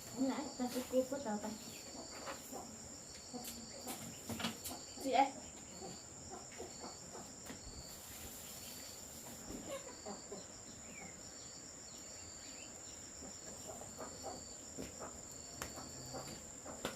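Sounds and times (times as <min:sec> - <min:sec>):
insects trilling: 0:00.0 - 0:16.9.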